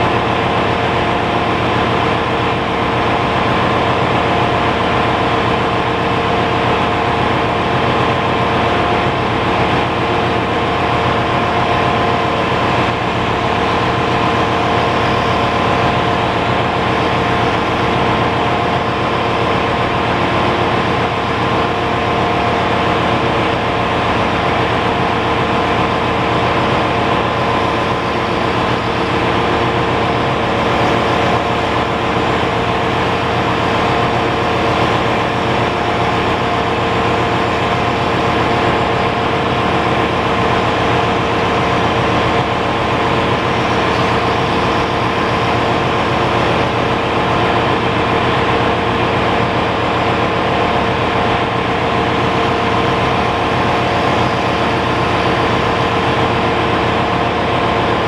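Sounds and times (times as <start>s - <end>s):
engine-room machinery running: 0.0s - 58.0s.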